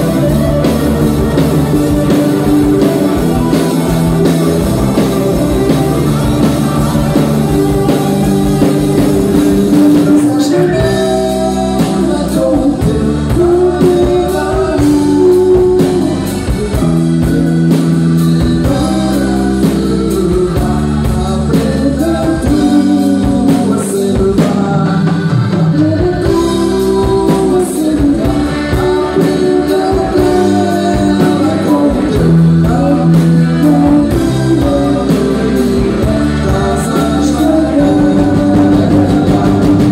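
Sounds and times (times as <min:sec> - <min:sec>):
band playing with singer: 0:00.0 - 0:39.9
steady drum beat: 0:00.0 - 0:39.9.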